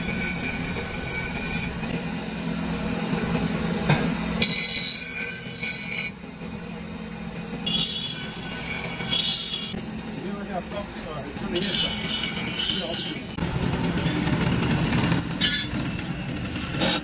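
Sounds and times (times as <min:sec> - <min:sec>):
metal grinding on abrasive wheel: 0:00.0 - 0:03.4, 0:04.4 - 0:17.0
bench grinder humming: 0:00.0 - 0:17.0.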